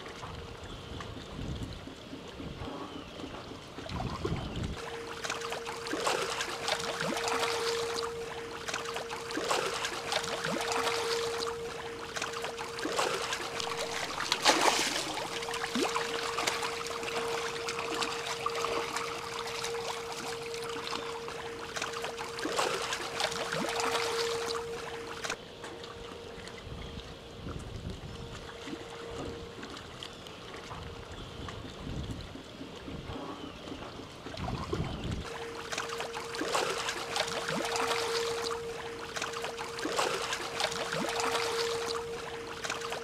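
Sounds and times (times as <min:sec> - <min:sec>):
steady hum: 0:00.0 - 0:43.0
water splashing along ship hull: 0:00.0 - 0:43.0.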